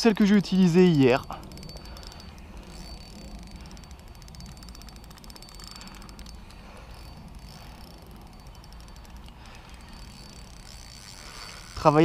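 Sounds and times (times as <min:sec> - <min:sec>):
fishing reel clicking rapidly: 0:00.0 - 0:12.0.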